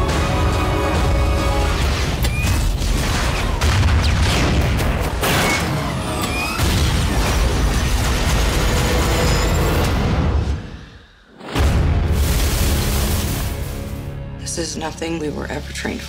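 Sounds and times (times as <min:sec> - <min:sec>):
booms impacts and crashes: 0:00.0 - 0:10.7, 0:11.4 - 0:14.1.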